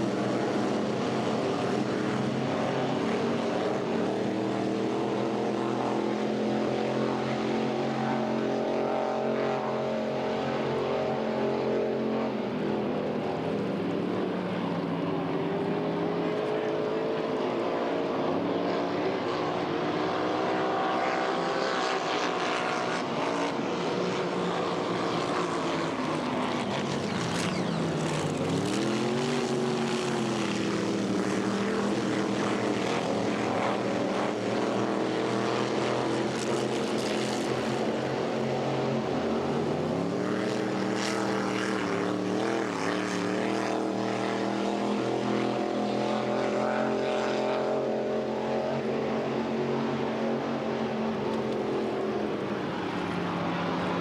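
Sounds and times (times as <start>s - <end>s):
racing boat engine: 0.0s - 54.0s.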